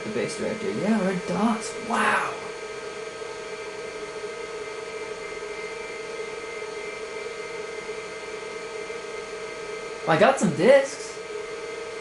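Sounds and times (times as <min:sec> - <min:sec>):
computer fan and hard drive whir: 0:00.0 - 0:12.0.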